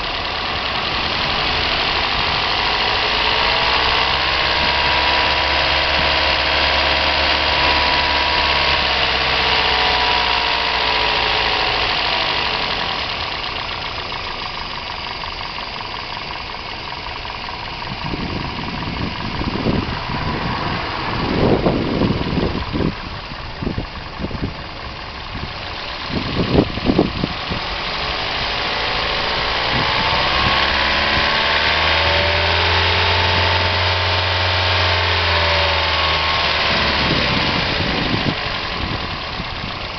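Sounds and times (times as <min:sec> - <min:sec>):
car engine running: 0:00.0 - 0:39.9
engine knocking: 0:00.0 - 0:39.9.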